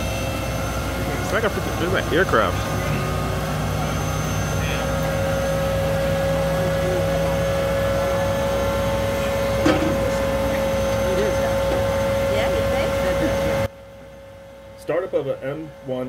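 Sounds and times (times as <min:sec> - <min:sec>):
gas turbine whine: 0:00.0 - 0:16.0.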